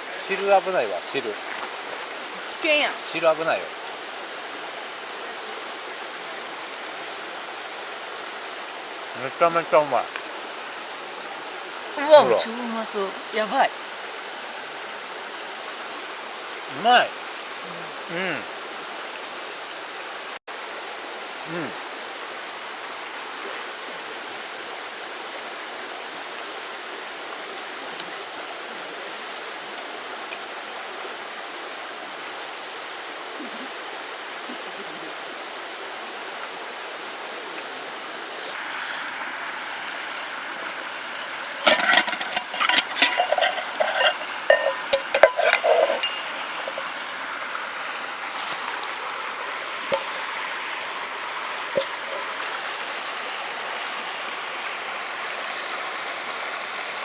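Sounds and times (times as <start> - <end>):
stream rushing: 0.0 - 57.0.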